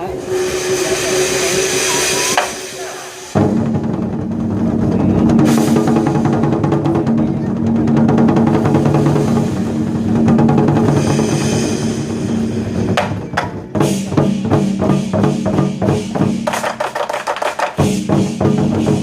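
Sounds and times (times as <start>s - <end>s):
war drums beating fast: 0.0s - 19.0s.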